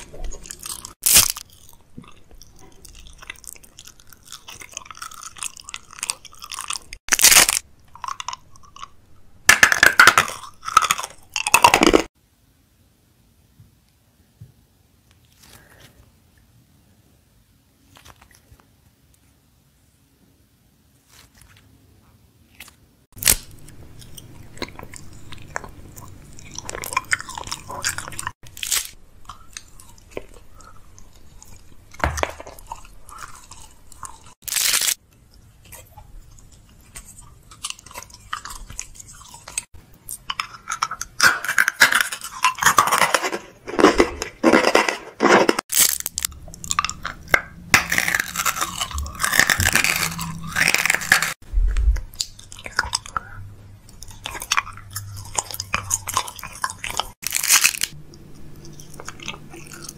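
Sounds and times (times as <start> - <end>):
chewing and crunching food: 0.0 - 12.2, 22.6 - 59.9.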